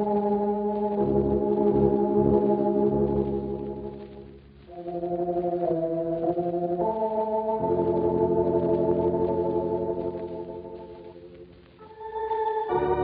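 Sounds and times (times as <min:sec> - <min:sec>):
organ sustained chords: 0:00.0 - 0:13.0.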